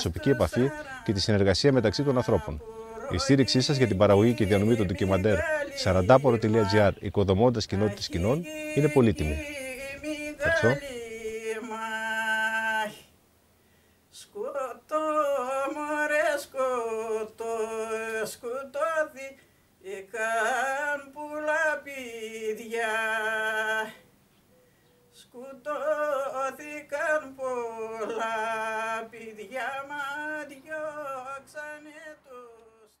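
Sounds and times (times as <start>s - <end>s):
person singing unaccompanied: 0.0s - 13.2s, 14.1s - 24.2s, 25.1s - 33.0s.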